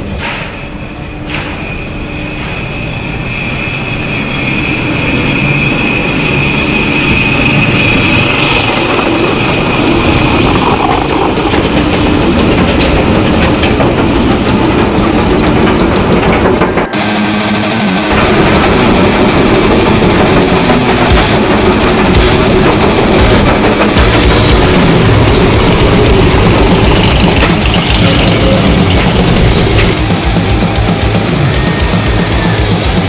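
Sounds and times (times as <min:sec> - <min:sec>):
high whine: 0:00.0 - 0:33.0
roller coaster rattling rumble: 0:00.0 - 0:33.0.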